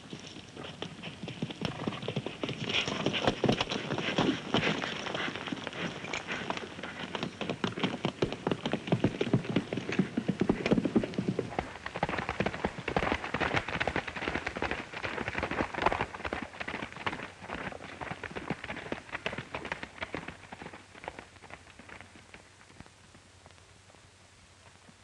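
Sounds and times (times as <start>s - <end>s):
horse galloping on dirt: 0.0s - 25.0s.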